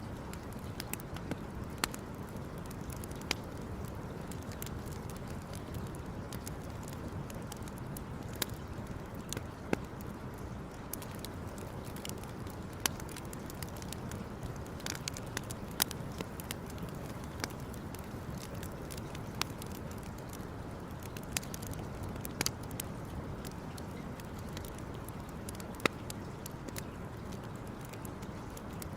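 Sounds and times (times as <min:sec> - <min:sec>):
campfire crackling and popping: 0:00.0 - 0:28.9
low background noise: 0:00.0 - 0:28.9.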